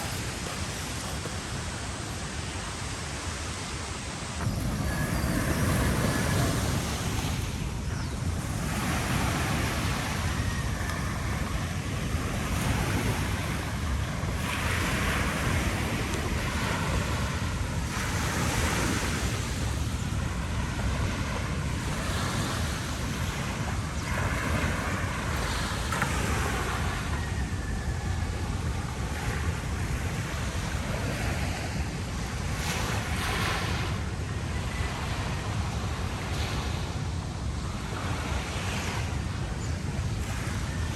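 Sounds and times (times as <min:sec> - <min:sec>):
ocean surf washing onto beach: 0:00.0 - 0:40.9
wind on microphone: 0:00.0 - 0:40.9.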